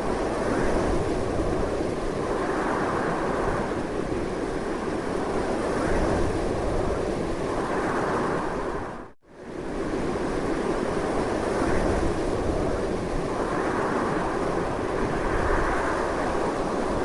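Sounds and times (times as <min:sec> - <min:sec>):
strong wind rushing: 0:00.0 - 0:17.0.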